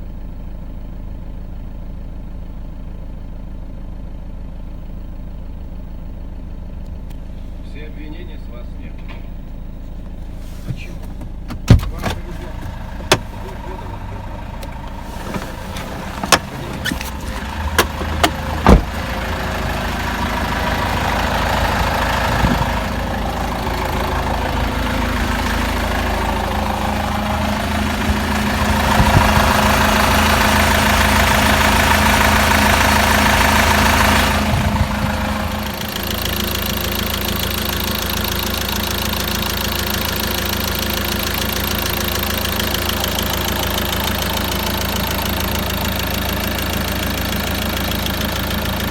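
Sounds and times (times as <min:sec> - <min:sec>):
diesel engine knocking: 0:08.0 - 0:48.9.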